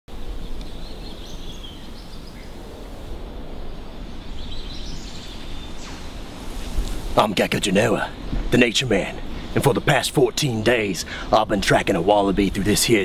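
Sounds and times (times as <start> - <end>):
birds chirping faintly: 0.1 - 13.0.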